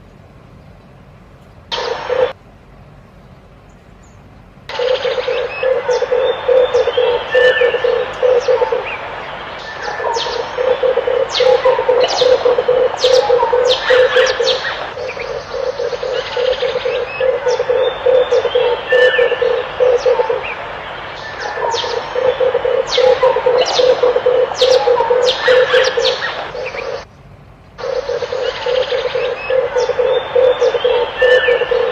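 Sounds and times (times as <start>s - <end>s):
small birds chirping: 0.0s - 2.4s, 3.1s - 31.9s
dove cooing: 1.7s - 2.3s, 4.7s - 27.0s, 27.8s - 31.9s.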